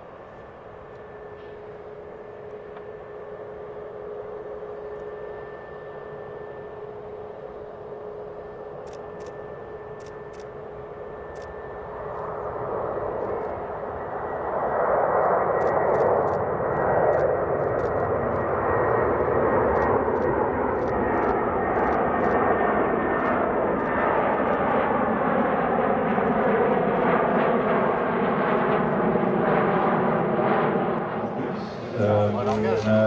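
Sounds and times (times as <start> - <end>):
aircraft engine noise: 0.0 - 33.0
faint high whine: 0.0 - 33.0.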